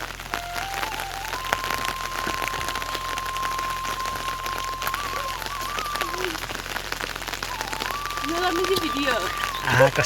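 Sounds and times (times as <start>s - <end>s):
steady rain falling: 0.0s - 10.0s
thin high tone: 0.9s - 10.0s.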